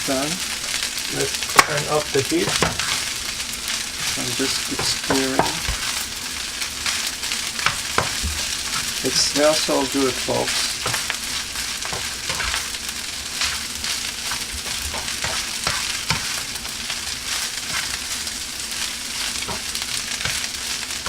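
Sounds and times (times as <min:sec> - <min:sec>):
rice sizzling in a pan: 0:00.0 - 0:21.0
spatula scraping a pan: 0:00.6 - 0:21.0.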